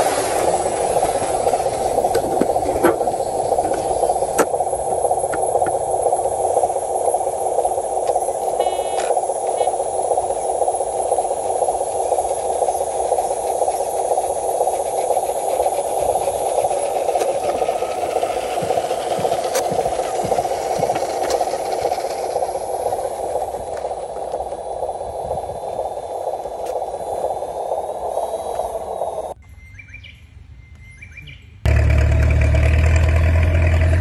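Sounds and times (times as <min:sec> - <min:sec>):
toy truck motor whirring: 0:00.0 - 0:29.2
sharp clicks and rattles: 0:00.0 - 0:29.4.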